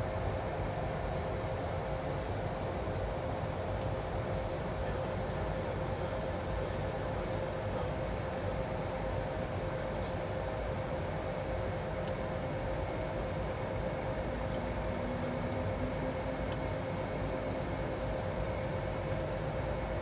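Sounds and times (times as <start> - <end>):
constant hum: 0.0 - 20.0
rush of airflow and air conditioning: 0.0 - 20.0.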